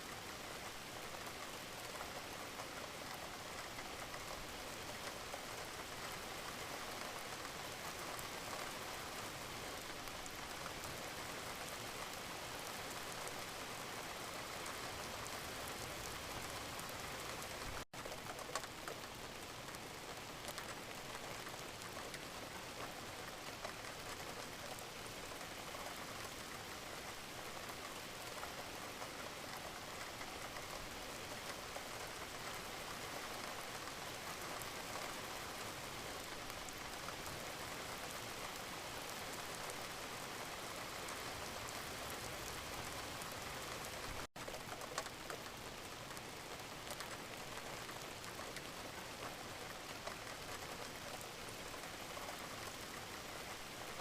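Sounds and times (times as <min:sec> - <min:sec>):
gentle rain patter: 0:00.0 - 0:54.0.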